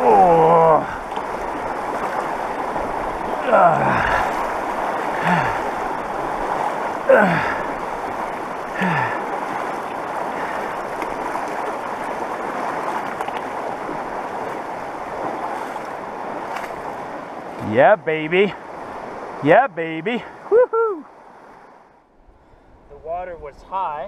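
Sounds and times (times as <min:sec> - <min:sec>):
mountain river rushing: 0:00.0 - 0:21.9.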